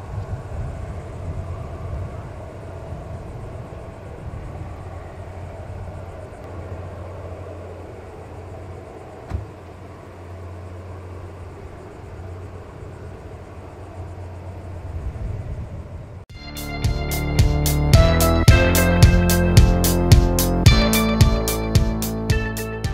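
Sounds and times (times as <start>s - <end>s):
car approaching: 0.0s - 22.9s
engine droning: 0.0s - 22.9s.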